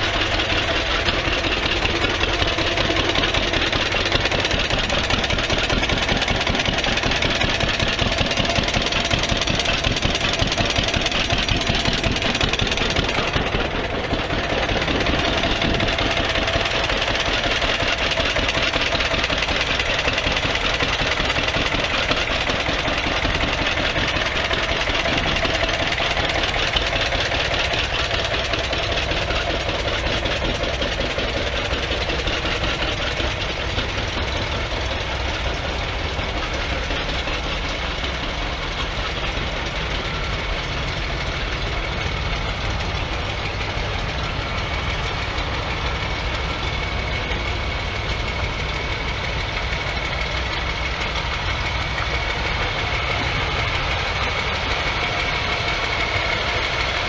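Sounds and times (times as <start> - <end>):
tractor engines idling: 0.0 - 57.0.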